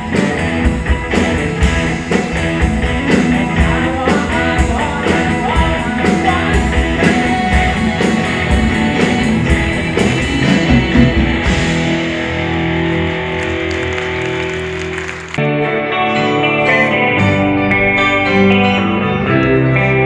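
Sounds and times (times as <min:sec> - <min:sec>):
drums: 0:00.0 - 0:20.0
electric guitar: 0:00.0 - 0:20.0.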